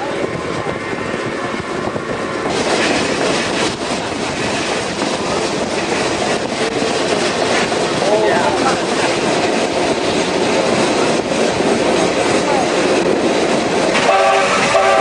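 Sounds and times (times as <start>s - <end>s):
train wheels clacking on rail joints: 0.0s - 15.0s.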